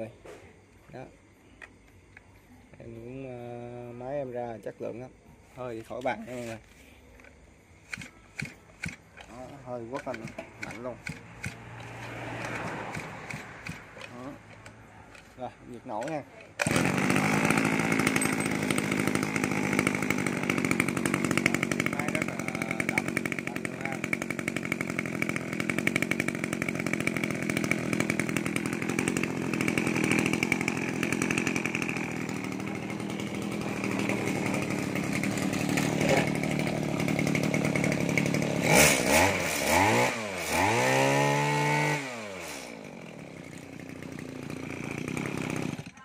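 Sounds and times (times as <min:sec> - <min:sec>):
brush cutter engine running: 0:05.6 - 0:46.0.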